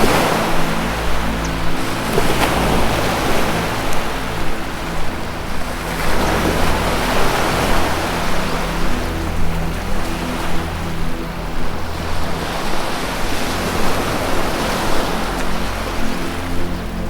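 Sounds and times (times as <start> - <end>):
ocean surf washing in: 0.0 - 16.8
low sustained music tone: 0.0 - 17.0.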